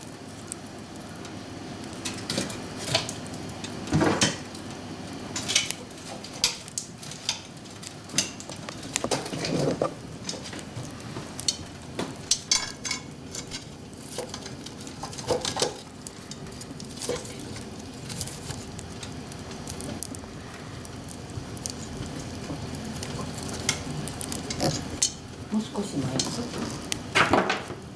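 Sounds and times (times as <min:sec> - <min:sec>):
firewood crackling and popping: 0:00.0 - 0:27.9.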